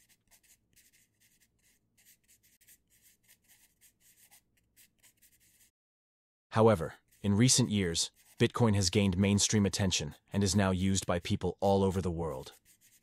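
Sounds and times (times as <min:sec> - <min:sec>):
pencil scratching on paper: 0:00.0 - 0:05.7, 0:06.7 - 0:09.7, 0:10.4 - 0:13.0.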